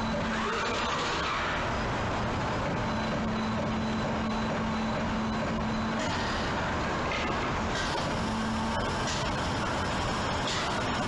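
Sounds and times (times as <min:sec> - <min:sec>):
punch press machine noise: 0:00.0 - 0:11.0
steady hum: 0:00.0 - 0:11.0.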